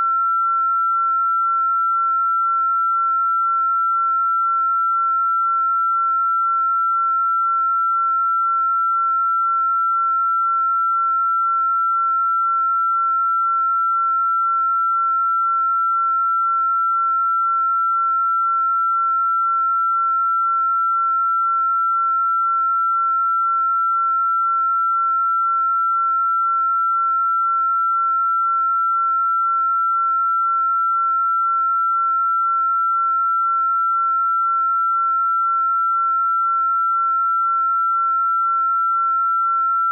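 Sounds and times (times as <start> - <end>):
high sine tone: 0.0 - 39.9.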